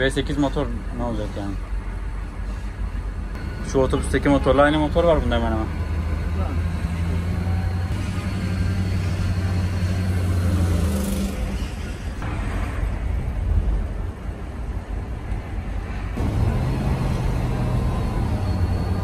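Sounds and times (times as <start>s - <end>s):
diesel engine drone: 0.0s - 19.0s
road rumble: 0.0s - 19.0s.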